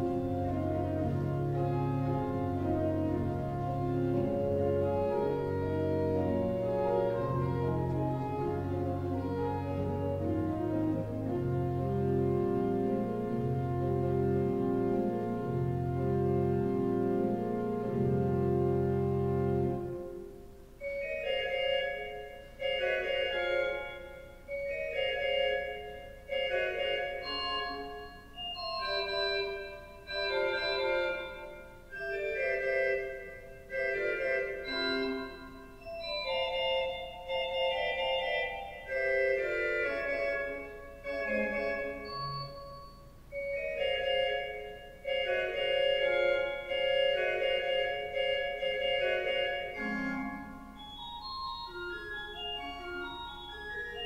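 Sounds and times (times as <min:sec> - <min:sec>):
slow keyboard chords: 0:00.0 - 0:54.0.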